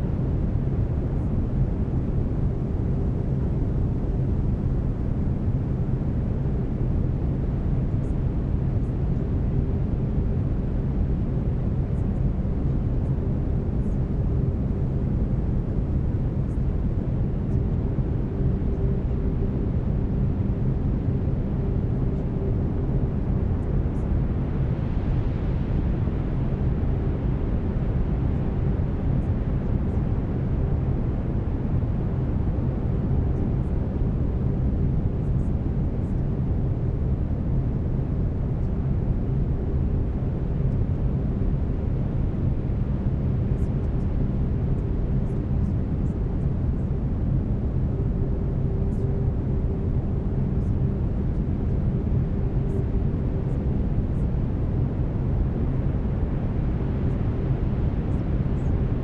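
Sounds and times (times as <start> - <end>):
faint steady tone: 0.0 - 59.0.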